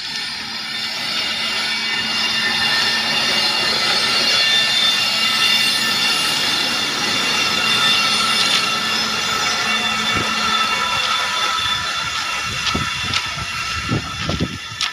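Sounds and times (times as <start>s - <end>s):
train clattering on track: 0.0s - 14.9s.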